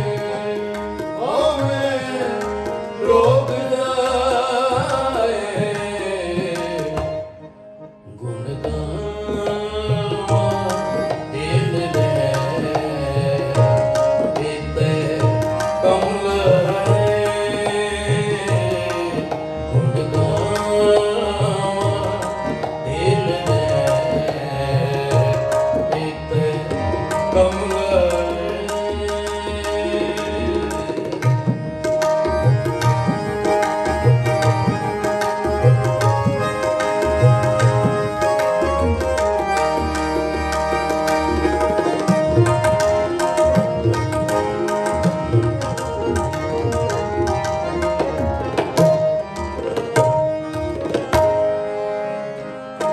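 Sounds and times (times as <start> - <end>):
harmonium: 0.0 - 52.9
tabla: 0.0 - 52.9.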